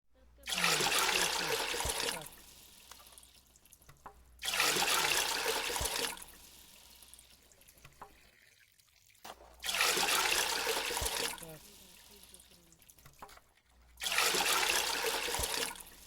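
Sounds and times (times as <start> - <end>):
water trickling: 0.2 - 16.0
water gushing: 0.4 - 16.0.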